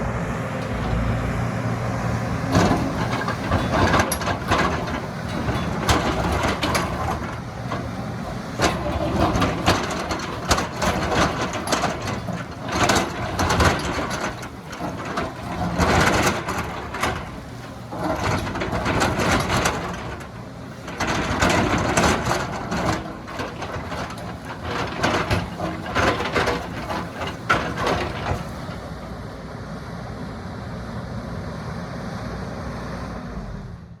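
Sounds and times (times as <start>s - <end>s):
excavator diesel engine: 0.0s - 34.0s.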